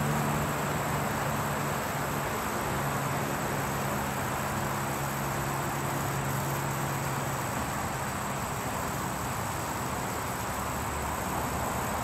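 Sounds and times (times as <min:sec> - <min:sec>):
water sprinkler hissing: 0:00.0 - 0:12.0.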